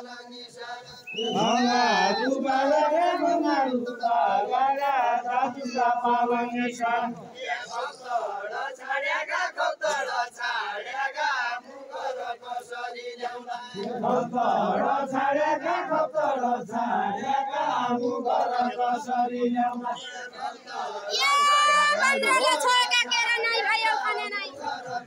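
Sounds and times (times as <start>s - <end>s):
group singing folk song: 0.0s - 25.0s.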